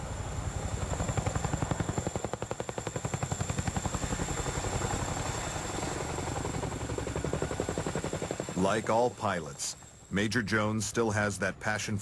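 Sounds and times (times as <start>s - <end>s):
helicopter rotors beating: 0.0s - 12.0s.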